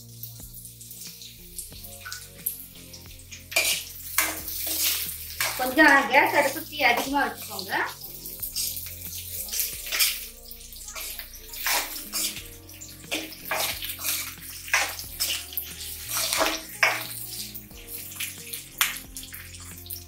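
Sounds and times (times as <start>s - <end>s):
background music low notes: 0.0s - 20.0s
metal spoon scraping a pan: 0.9s - 20.0s.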